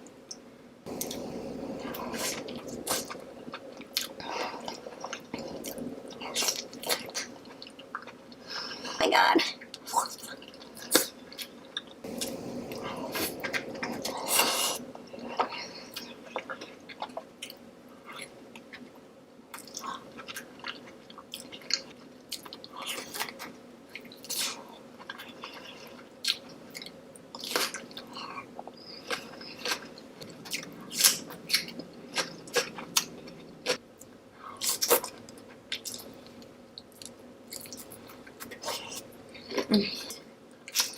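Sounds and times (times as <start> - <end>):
person chewing and crunching food: 0.9 - 8.8, 9.6 - 18.9, 19.5 - 40.0, 40.6 - 40.9.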